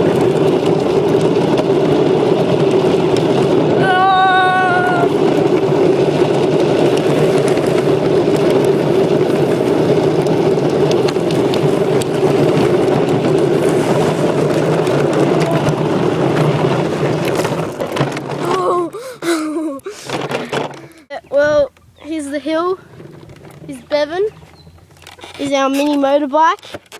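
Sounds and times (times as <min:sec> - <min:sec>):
mini motorbike engine running: 0:00.0 - 0:26.9.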